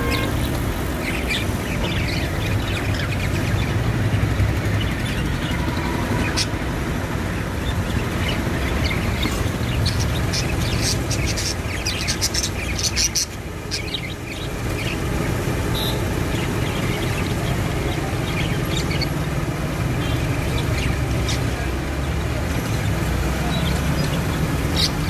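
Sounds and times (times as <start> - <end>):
budgerigars chirping: 0.0 - 6.6, 7.3 - 25.0.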